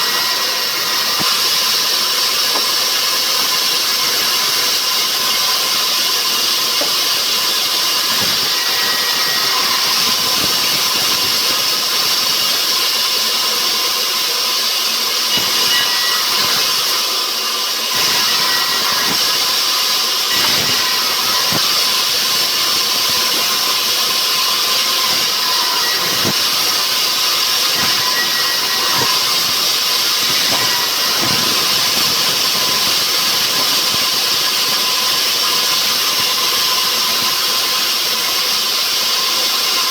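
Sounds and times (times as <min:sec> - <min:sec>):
thin steady whine: 0:00.0 - 0:39.8
sawmill machinery running: 0:00.0 - 0:39.9.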